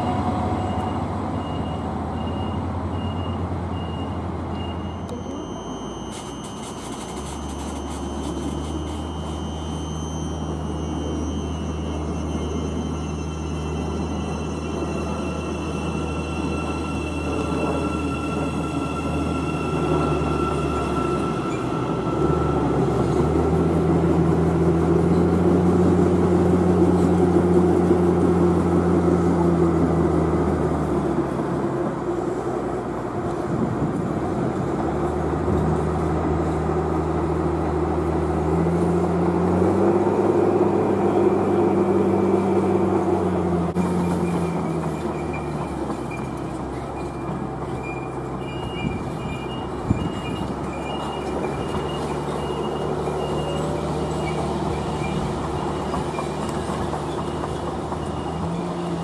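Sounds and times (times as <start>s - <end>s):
wheels rumbling on rail: 0.0s - 59.0s
high electric train whine: 4.5s - 59.0s
electric train hum: 5.1s - 59.0s.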